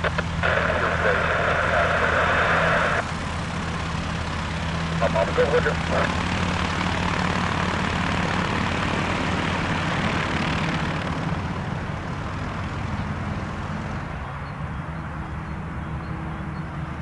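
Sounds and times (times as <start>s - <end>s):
propeller aircraft engine drone: 0.0s - 17.0s.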